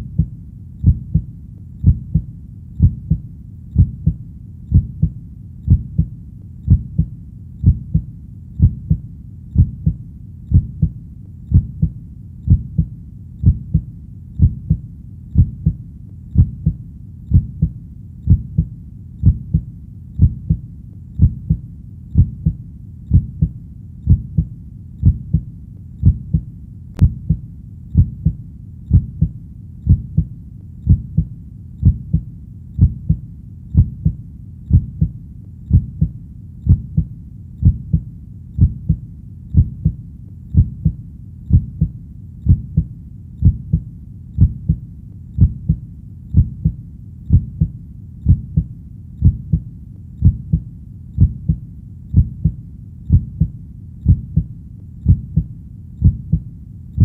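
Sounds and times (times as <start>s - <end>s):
heartbeat thumps: 0.0s - 44.8s, 45.4s - 57.0s.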